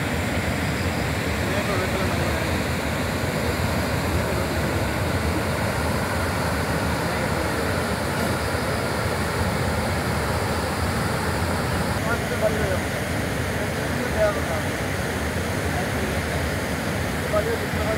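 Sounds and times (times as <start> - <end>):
turbulent water rushing: 0.0 - 17.9.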